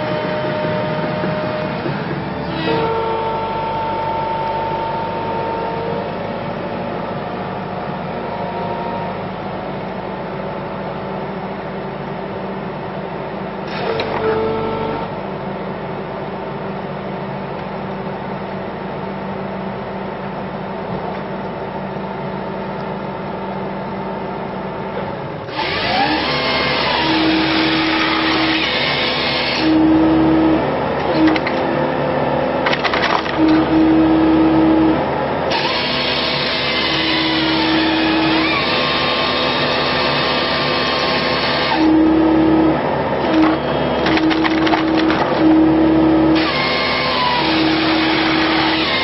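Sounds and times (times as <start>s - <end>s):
firewood processor machine drone: 0.0s - 49.0s.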